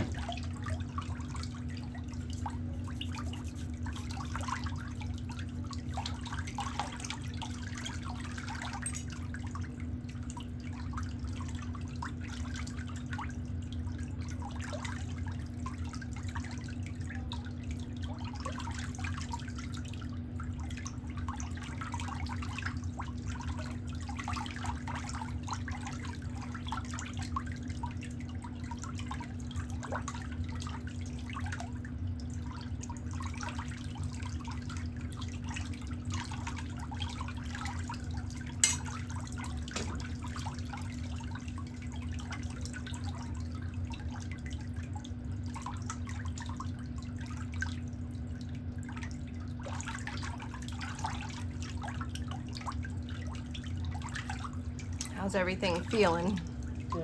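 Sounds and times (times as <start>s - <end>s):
steady low hum: 0.0s - 57.0s
water trickling and dripping: 0.0s - 57.0s.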